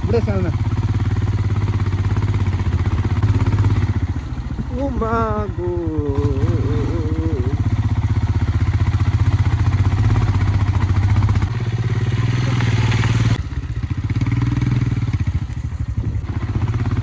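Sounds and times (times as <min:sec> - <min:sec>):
motorcycle engine under throttle: 0:00.0 - 0:17.0.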